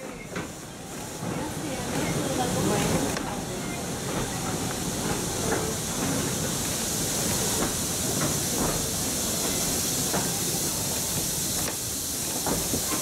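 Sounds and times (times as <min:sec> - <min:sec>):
steam train hiss: 0:00.0 - 0:13.0.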